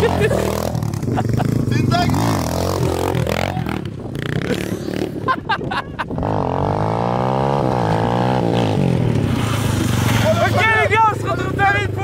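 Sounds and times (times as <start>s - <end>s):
dirt bike engine revving: 0.0s - 5.3s, 6.1s - 12.0s.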